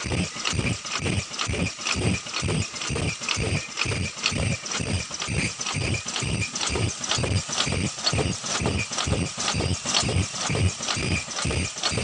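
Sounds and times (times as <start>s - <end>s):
machine clacking: 0.0s - 12.0s.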